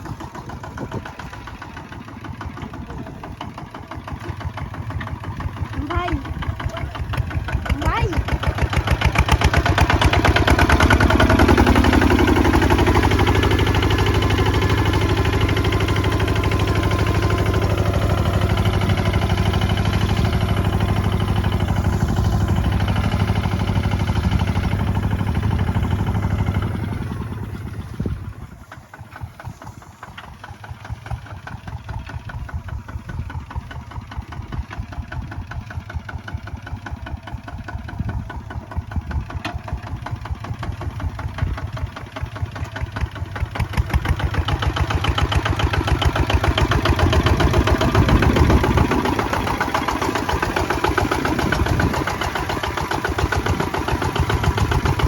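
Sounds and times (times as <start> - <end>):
diesel tractor engine thudding: 0.0 - 55.0.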